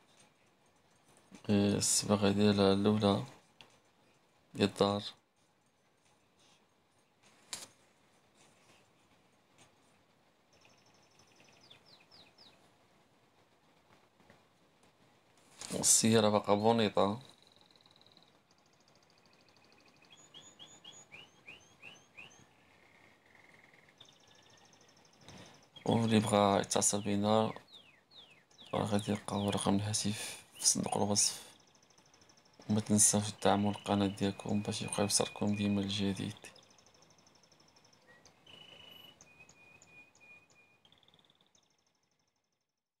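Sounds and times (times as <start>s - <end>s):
faint bird song: 0.0s - 43.0s.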